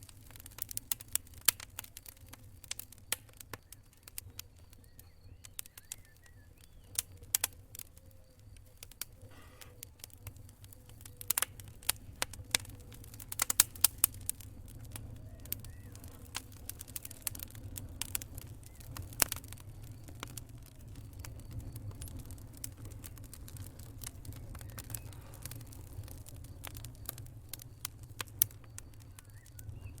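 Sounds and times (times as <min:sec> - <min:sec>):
burning wood popping: 0:00.0 - 0:30.0
low rumble of flames: 0:00.0 - 0:30.0.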